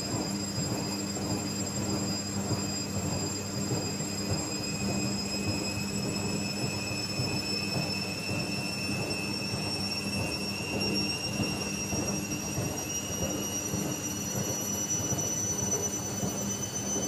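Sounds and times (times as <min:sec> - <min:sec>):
washing machine rumble and hum: 0:00.0 - 0:17.0.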